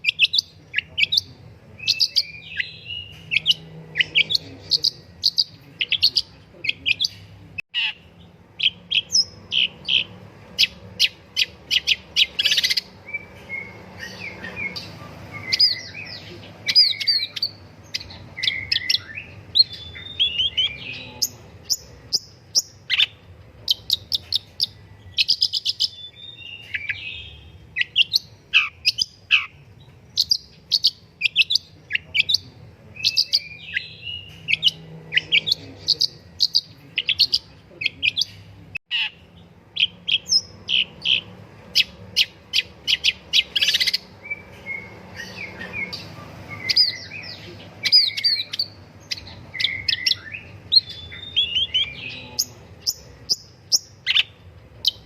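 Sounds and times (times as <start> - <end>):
shrike singing: 0.0 - 55.0.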